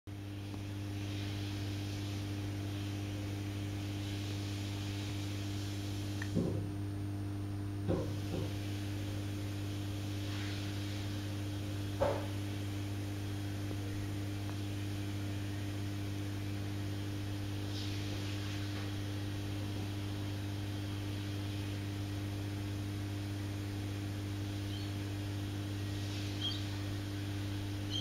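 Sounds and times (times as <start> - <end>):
low electrical hum: 0.1 - 28.0.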